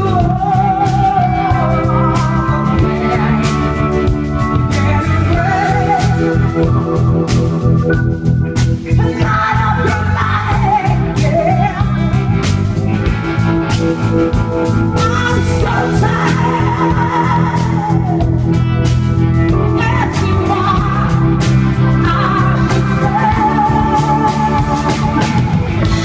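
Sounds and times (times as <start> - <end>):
woman singing: 0.0 - 7.6, 8.9 - 12.6, 15.0 - 18.7, 19.5 - 26.0
live rock band playing: 0.0 - 26.0.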